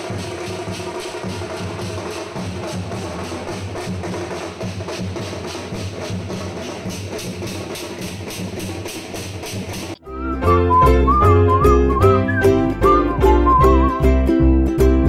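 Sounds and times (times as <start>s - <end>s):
music with fast drum beat: 0.0s - 14.4s.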